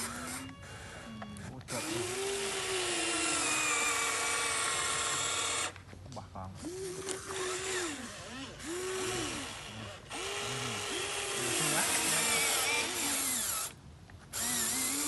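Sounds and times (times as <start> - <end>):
electric motors whining: 0.0 - 5.8, 6.6 - 15.0.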